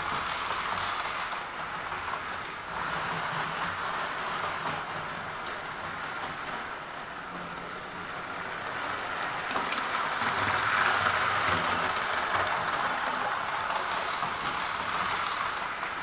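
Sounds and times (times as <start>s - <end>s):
model train motor whirring: 0.0s - 6.8s, 8.2s - 16.0s.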